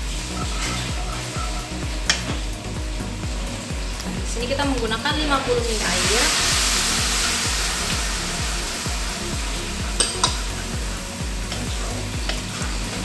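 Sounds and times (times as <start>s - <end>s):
sauce sizzling in wok: 0.0s - 4.2s, 5.0s - 13.0s.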